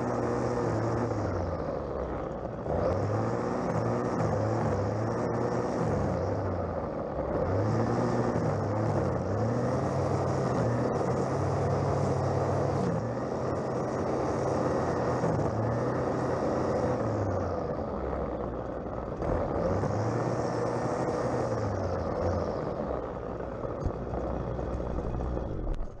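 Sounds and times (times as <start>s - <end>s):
string trimmer motor running: 0.0s - 26.0s.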